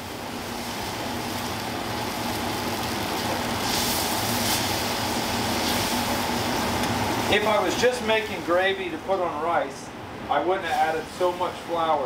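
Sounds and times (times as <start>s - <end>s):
gravy hissing and bubbling in a pan: 0.0s - 12.0s.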